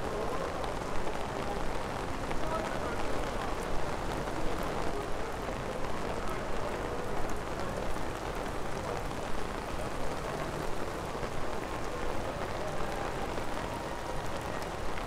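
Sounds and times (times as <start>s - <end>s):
steady rain on city street: 0.0s - 15.0s.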